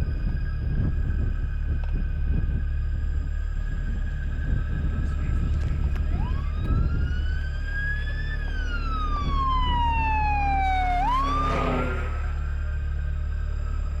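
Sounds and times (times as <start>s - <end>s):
low rumble: 0.0s - 14.0s
siren wailing: 0.0s - 14.0s.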